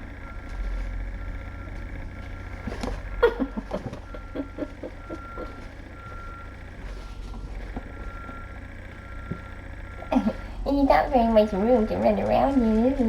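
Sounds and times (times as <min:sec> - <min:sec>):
steady low hum: 0:00.0 - 0:13.0
faint beeps: 0:00.2 - 0:02.6, 0:04.0 - 0:13.0.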